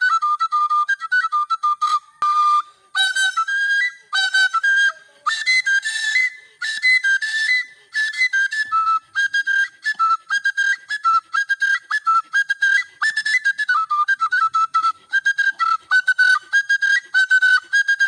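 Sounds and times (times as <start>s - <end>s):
flute melody: 0.0s - 18.0s.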